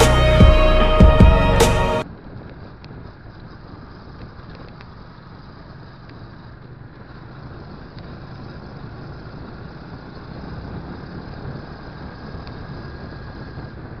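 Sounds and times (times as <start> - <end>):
road and wind noise: 2.0 - 14.0.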